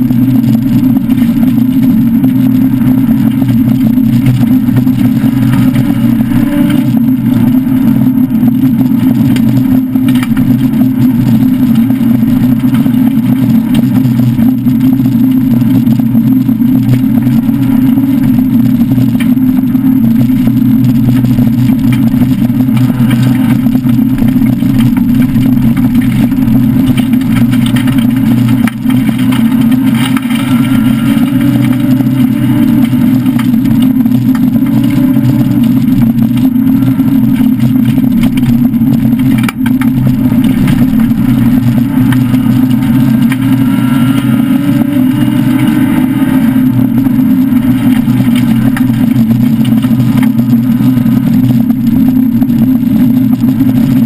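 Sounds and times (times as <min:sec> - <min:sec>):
car engine droning at speed: 0:00.0 - 0:54.0
road noise on dirt track: 0:00.0 - 0:54.0.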